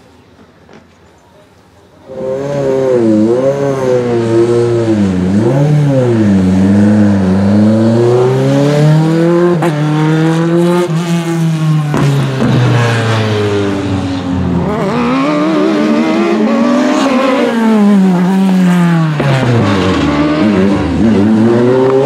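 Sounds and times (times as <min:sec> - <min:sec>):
race car engine revving: 0:02.1 - 0:22.0.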